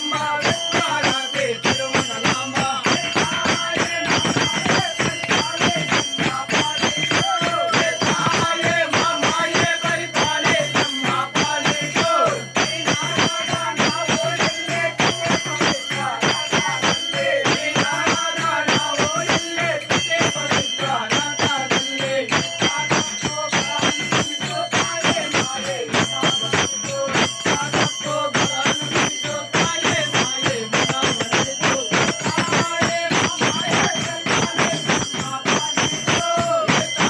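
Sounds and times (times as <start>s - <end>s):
bell ringing: 0.0s - 37.0s
fast beat of sharp strokes: 0.0s - 37.0s.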